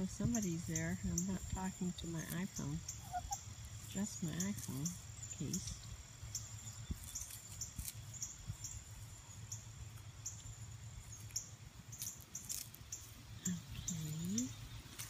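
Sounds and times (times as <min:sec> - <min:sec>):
low steady hum: 0:00.0 - 0:15.0
high-pitched insect chirps: 0:02.4 - 0:15.0.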